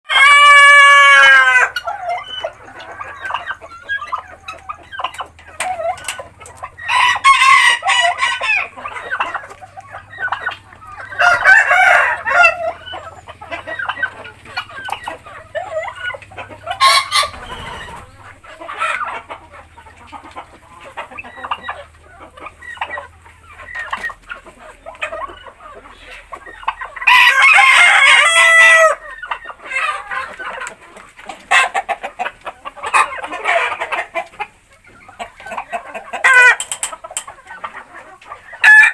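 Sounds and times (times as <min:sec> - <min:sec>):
roosters crowing: 0:00.0 - 0:30.7, 0:35.4 - 0:36.8, 0:37.4 - 0:38.9
hens clucking: 0:00.0 - 0:38.9.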